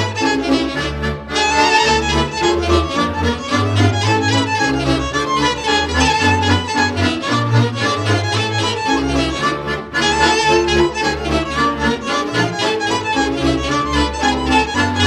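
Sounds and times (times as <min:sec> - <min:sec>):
folk dance music: 0:00.0 - 0:15.0.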